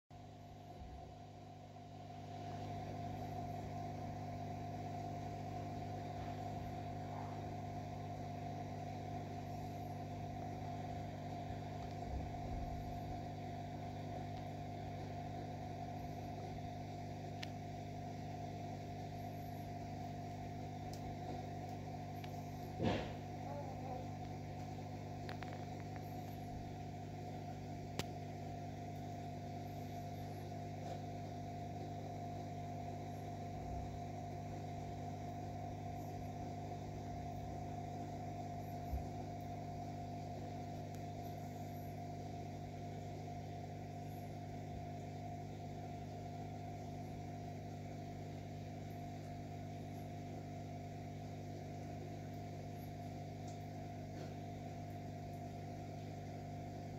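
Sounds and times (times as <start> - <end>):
aquarium equipment humming: 0.1 - 56.9.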